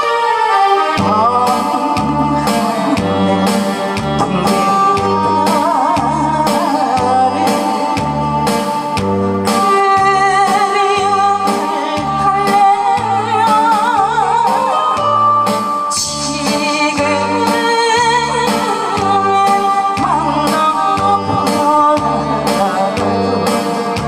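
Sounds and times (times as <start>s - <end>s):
woman singing with vibrato: 0.0s - 8.4s, 9.6s - 24.0s
backing track with bass beat: 0.0s - 24.0s.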